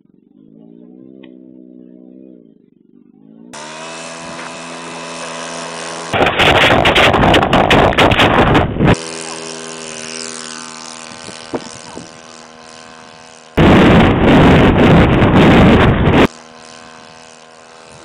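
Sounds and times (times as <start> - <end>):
model airplane engine droning: 0.0 - 18.0
harsh rushing noise: 3.6 - 18.0.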